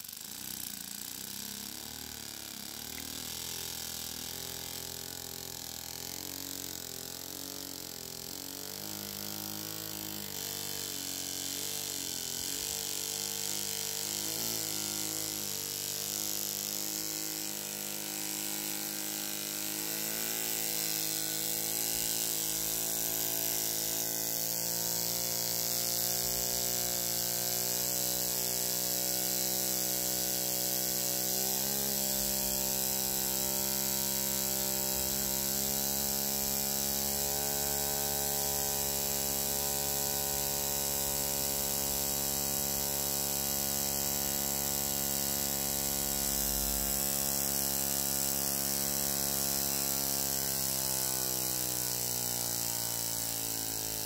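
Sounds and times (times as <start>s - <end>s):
model engine high buzz: 0.0s - 54.0s.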